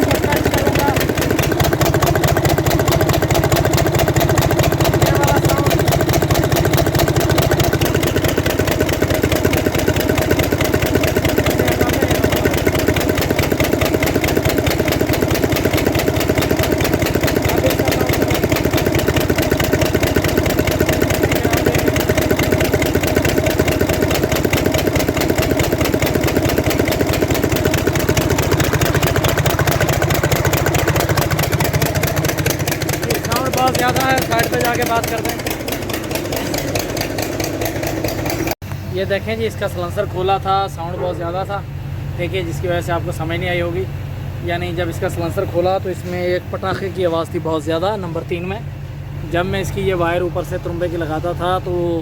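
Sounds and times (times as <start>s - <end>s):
diesel engine idling: 0.0s - 52.0s
engine popping: 0.0s - 52.0s.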